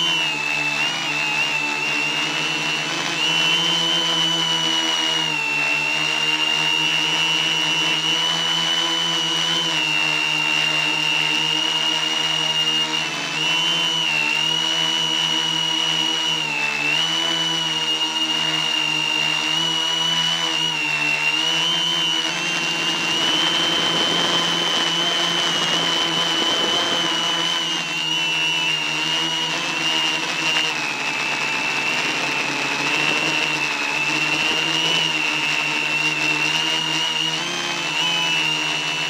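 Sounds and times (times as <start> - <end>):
quadcopter motors whining: 0.0 - 39.0.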